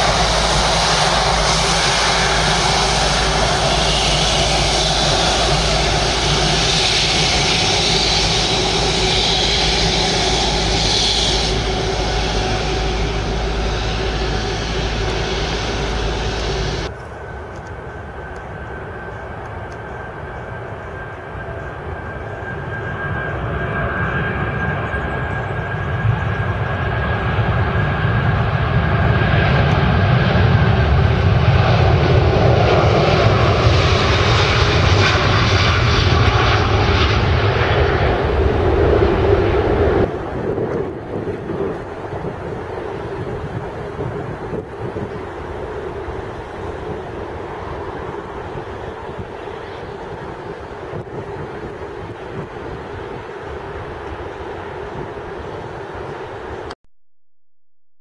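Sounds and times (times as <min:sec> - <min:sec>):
distant jet engine rumble: 0:00.0 - 0:56.8
jet engine whine: 0:00.0 - 0:56.8.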